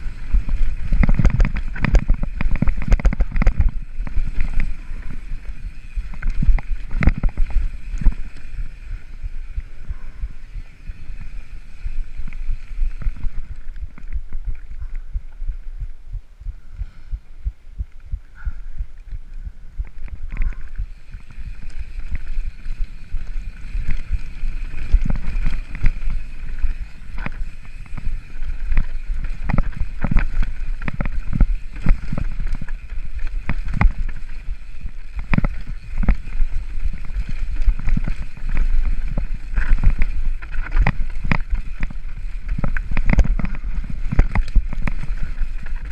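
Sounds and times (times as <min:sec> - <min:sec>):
bike knocking and rattling: 0:00.0 - 0:15.4, 0:19.8 - 0:45.9
wind rumble on microphone: 0:00.0 - 0:45.9.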